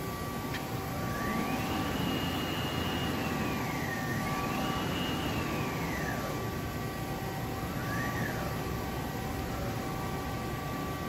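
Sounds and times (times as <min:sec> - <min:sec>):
lathe spindle motor whine: 0:00.0 - 0:11.0
steady machine hum: 0:00.0 - 0:11.0.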